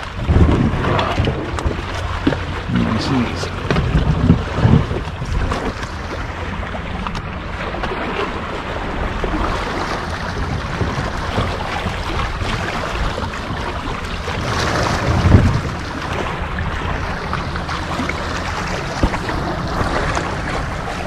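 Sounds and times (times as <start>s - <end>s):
water washing on shoreline: 0.0s - 21.0s
wind buffeting microphone: 0.0s - 21.0s.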